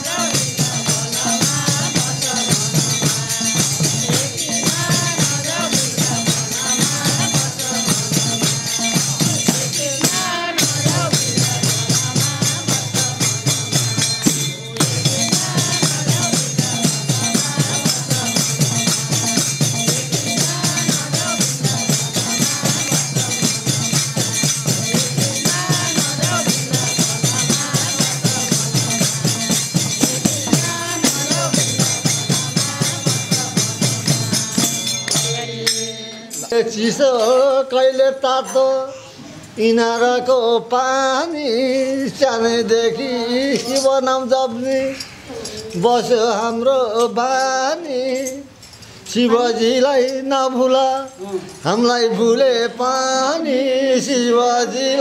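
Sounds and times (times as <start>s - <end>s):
jingling tambourine percussion: 0.0s - 55.0s.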